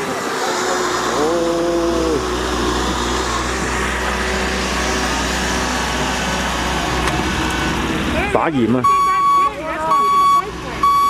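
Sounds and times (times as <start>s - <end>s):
street noise: 0.0s - 11.0s
vehicle engine rumbling: 0.0s - 11.0s.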